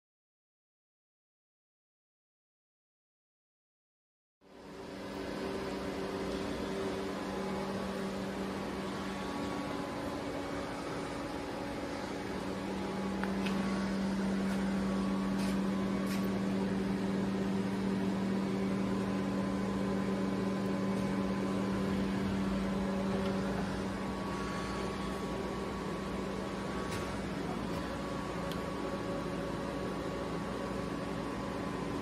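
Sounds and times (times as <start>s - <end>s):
lathe humming: 4.6s - 32.0s.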